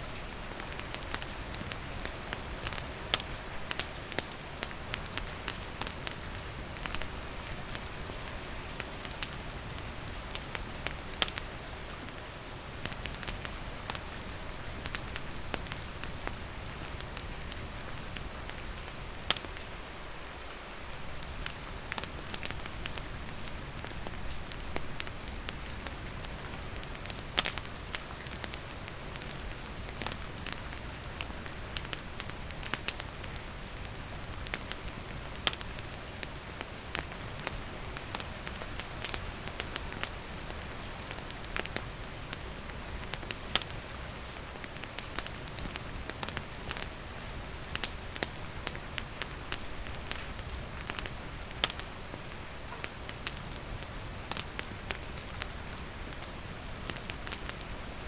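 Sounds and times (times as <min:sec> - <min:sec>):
campfire crackling: 0:00.0 - 0:58.0
steady rain: 0:00.0 - 0:58.0.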